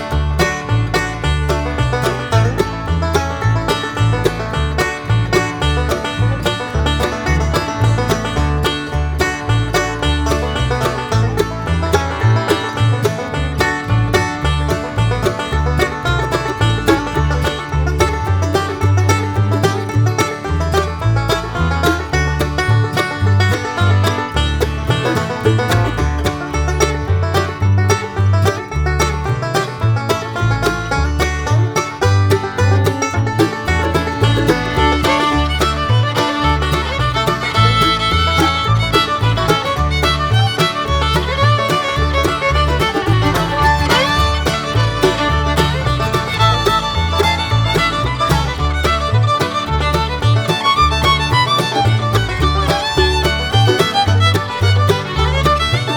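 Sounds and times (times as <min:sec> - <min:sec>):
instrumental music with beat: 0:00.0 - 0:55.9.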